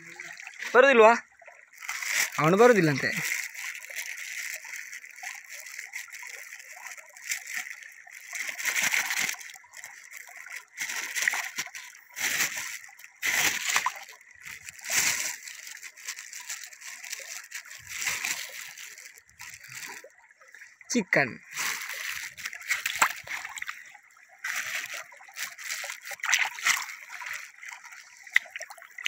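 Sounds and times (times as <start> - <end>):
splashing in water: 0.0 - 29.0
stream trickling: 0.0 - 29.0.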